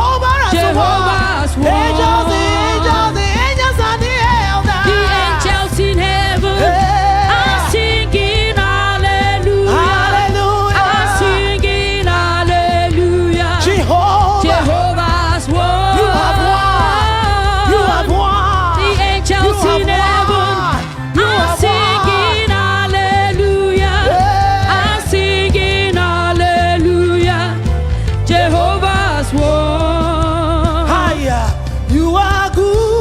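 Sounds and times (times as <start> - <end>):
bass accompaniment: 0.0 - 33.0
voices singing gospel: 0.0 - 33.0.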